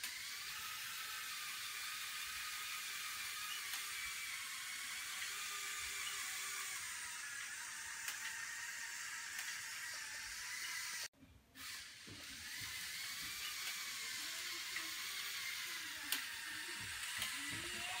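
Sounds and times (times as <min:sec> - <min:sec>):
toy car motor whirring: 0:00.0 - 0:18.0.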